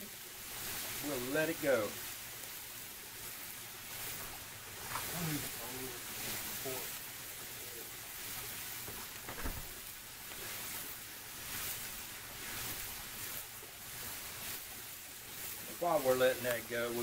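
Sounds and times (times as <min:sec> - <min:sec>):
sausage sizzling on griddle: 0:00.0 - 0:17.0.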